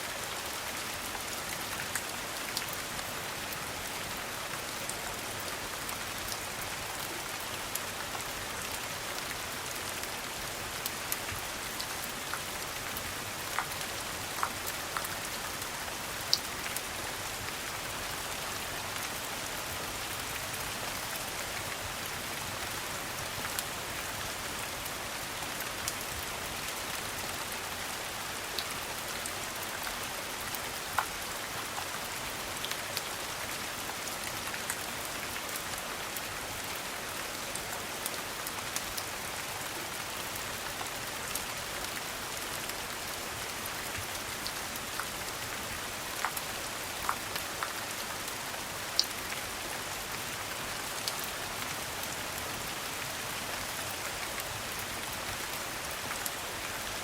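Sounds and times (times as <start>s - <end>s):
rain on a hard surface: 0.0s - 57.0s.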